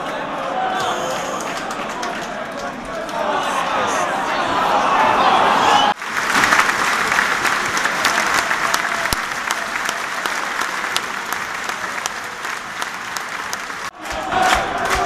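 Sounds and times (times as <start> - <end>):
stadium crowd clapping in unison: 0.0 - 15.0.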